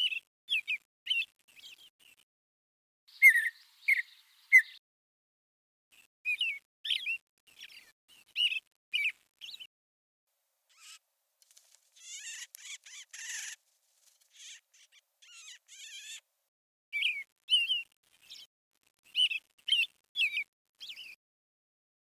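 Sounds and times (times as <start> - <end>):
small birds chirping: 0.0 - 2.3, 3.1 - 4.8, 5.9 - 9.7, 10.7 - 16.3, 16.9 - 21.2.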